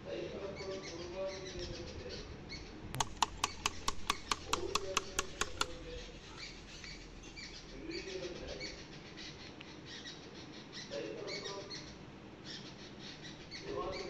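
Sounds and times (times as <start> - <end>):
birds chirping: 0.0 - 14.0
low cooing bird call: 0.6 - 14.0.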